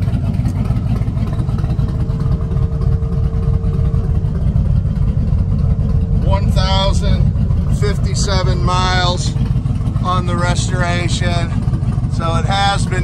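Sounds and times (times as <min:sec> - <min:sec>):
engine idling low rumble: 0:00.0 - 0:13.0
faint steady whine: 0:00.2 - 0:13.0.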